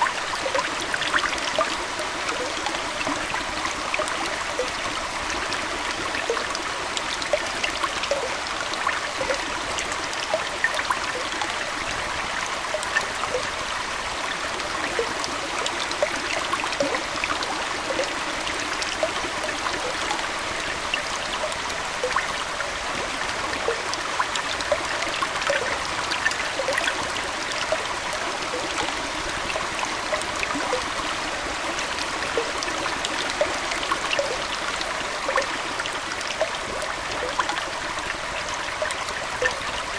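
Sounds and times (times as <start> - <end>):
aquarium water trickling: 0.0 - 39.9
water splashing and gurgling: 0.0 - 39.9.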